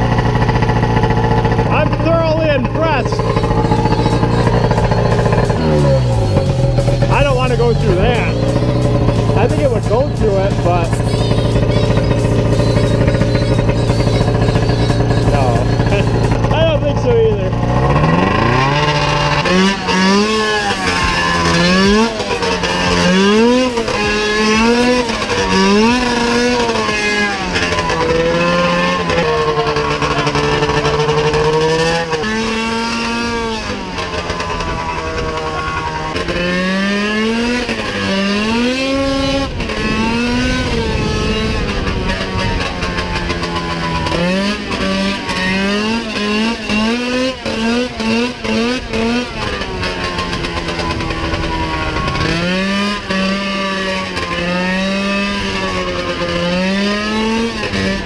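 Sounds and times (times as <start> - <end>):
two-stroke engine revving: 0.0 - 58.0.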